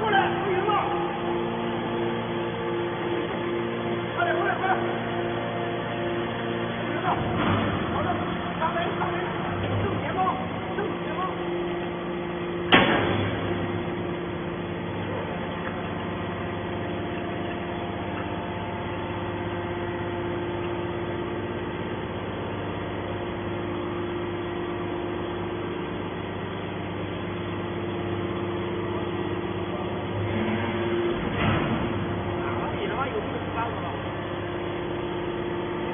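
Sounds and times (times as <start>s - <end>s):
hydraulic power unit humming: 0.0s - 35.9s.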